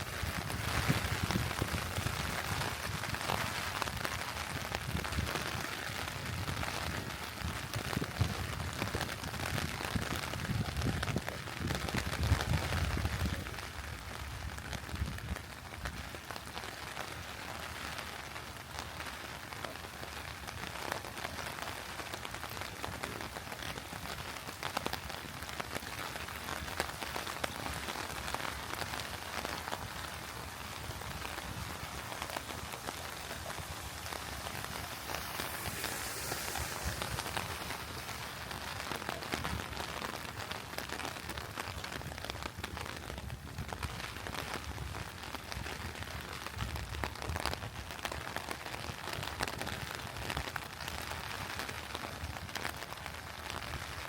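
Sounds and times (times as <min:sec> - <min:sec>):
rain drops pattering: 0:00.0 - 0:54.0.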